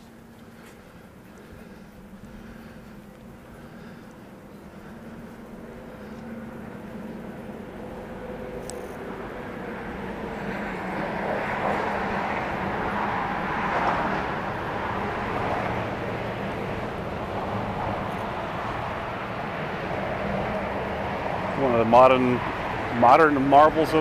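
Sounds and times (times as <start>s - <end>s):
road traffic rushing: 0.0s - 24.0s.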